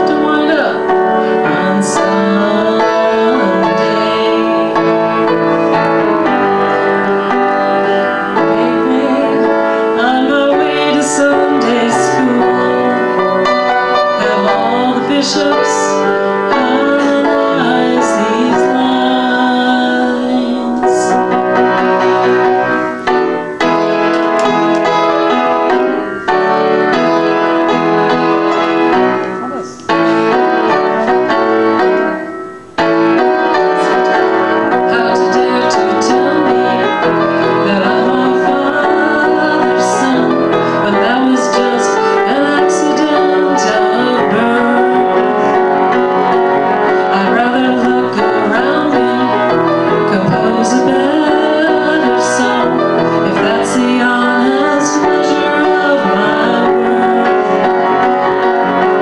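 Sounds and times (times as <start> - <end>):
piano playing rock chords: 0.0 - 59.0.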